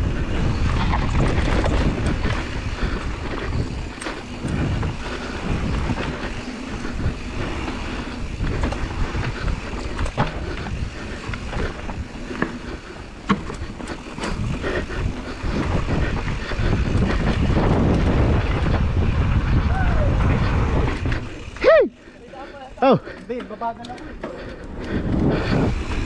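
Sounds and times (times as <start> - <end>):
rushing air: 0.0 - 22.1
bike rattling and knocking: 0.0 - 26.0
bike tyres rolling over dirt: 0.0 - 26.0.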